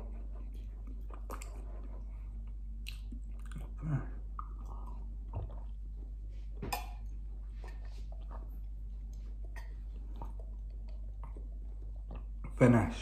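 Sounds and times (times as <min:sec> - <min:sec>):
man chewing food: 0:00.0 - 0:12.6.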